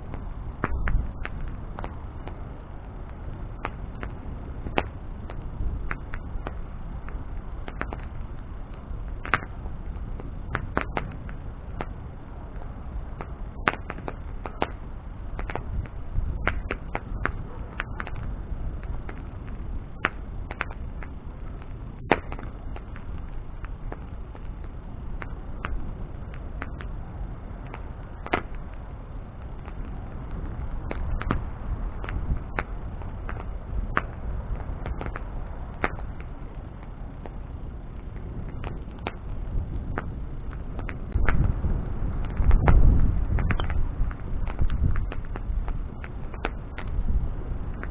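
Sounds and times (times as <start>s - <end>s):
fire flames rushing: 0.0s - 47.9s
wood crackling and popping: 0.0s - 47.9s.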